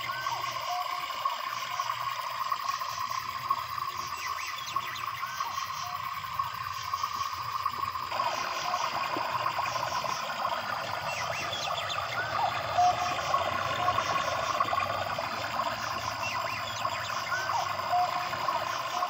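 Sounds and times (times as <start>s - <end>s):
cricket-like trill: 0.0s - 19.0s
flowing water: 0.0s - 19.0s.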